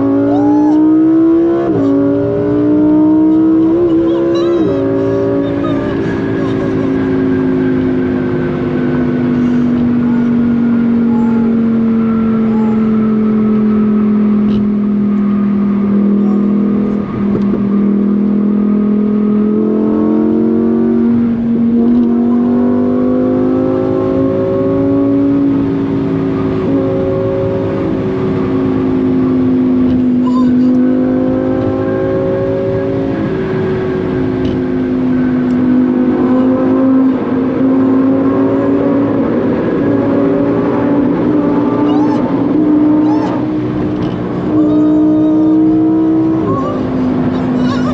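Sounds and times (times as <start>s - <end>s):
sports car engine and exhaust: 0.0s - 47.9s.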